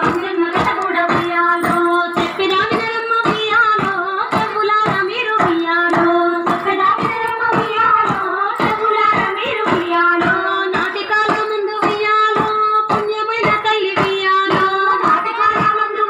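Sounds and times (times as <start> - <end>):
group hand claps: 0.0 - 15.8
high voices singing folk song: 0.0 - 15.9.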